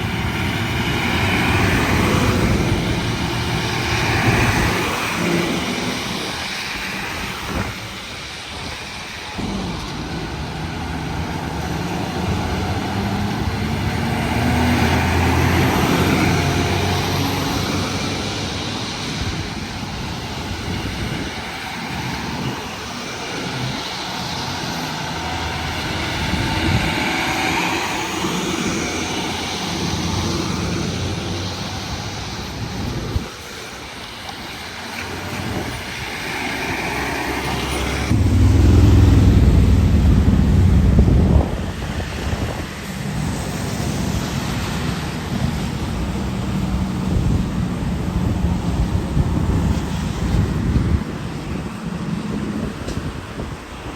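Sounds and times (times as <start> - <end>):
trucks driving past: 0.0 - 53.9.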